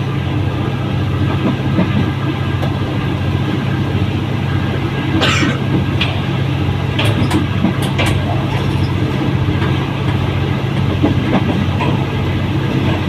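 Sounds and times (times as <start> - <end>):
track and wind noise: 0.0 - 13.0
train engine drone: 0.0 - 13.0.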